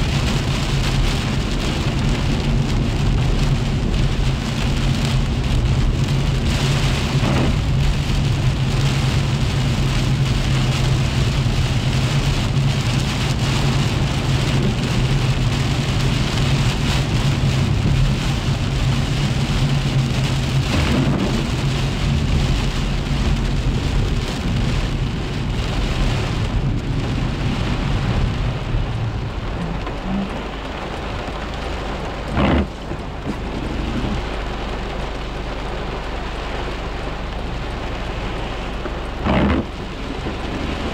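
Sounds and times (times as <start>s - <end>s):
heavy rain on car roof: 0.0s - 40.9s.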